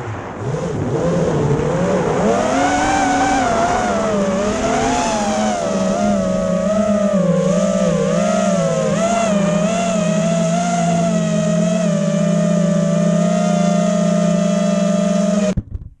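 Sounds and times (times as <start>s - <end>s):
drone motors whining: 0.4s - 15.6s.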